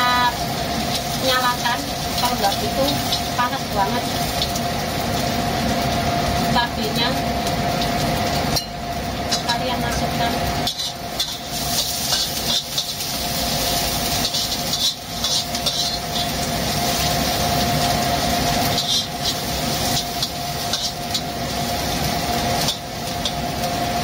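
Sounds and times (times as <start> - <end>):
cooker hood fan humming: 0.0 - 24.0
food sizzling in a pan: 0.0 - 24.0.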